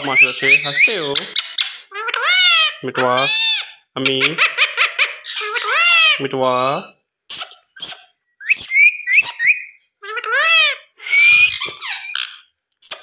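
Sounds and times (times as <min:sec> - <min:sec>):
parakeet whistles and chirps: 0:00.0 - 0:03.8, 0:04.8 - 0:13.0.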